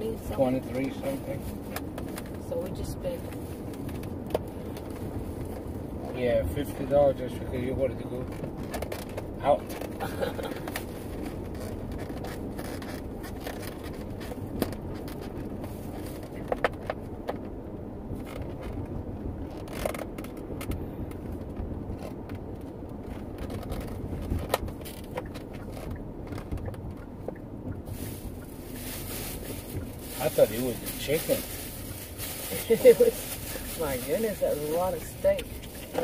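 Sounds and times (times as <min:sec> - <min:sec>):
car cabin road noise: 0:00.0 - 0:36.0.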